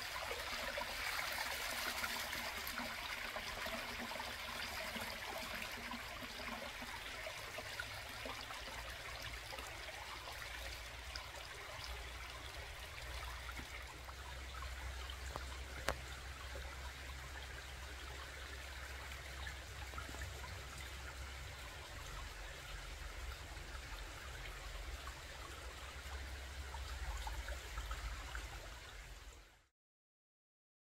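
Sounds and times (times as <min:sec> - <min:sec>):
water trickling over rocks: 0:00.0 - 0:29.3.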